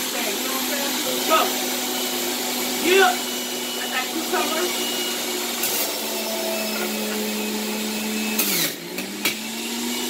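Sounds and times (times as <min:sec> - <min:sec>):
juicer motor whining: 0:00.0 - 0:10.0.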